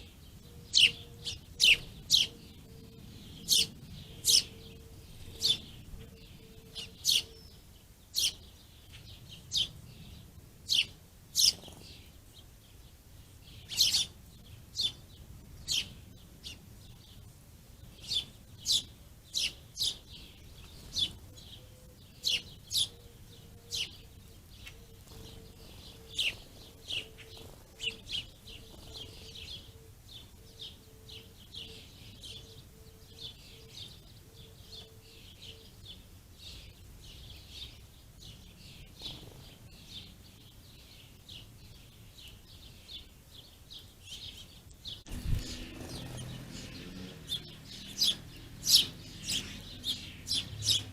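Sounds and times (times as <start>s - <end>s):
small songbirds chirping: 0.0s - 50.9s.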